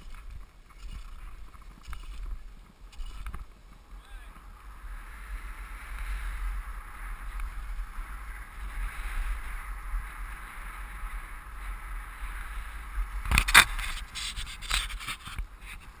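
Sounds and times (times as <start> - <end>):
skis hissing over snow: 0.0 - 16.0
wind rumbling on microphone: 0.0 - 16.0.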